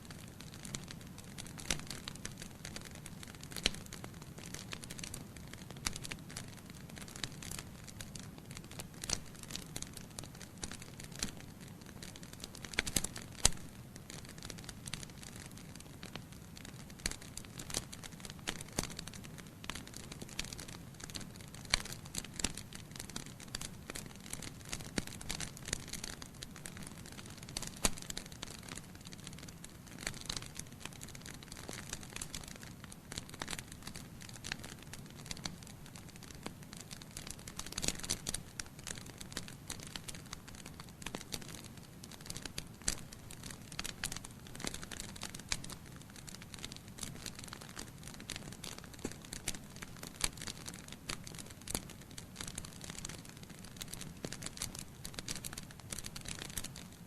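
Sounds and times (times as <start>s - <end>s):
low rumble of flame: 0.0s - 57.0s
wood fire crackling: 0.0s - 57.0s.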